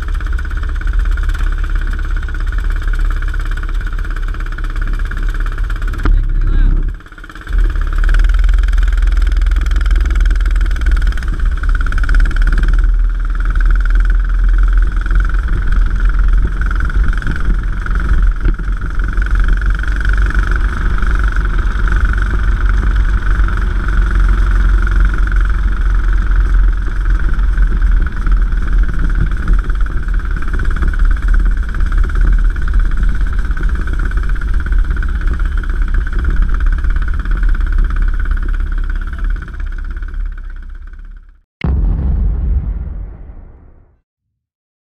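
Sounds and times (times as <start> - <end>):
kart engine running: 0.0 - 41.3.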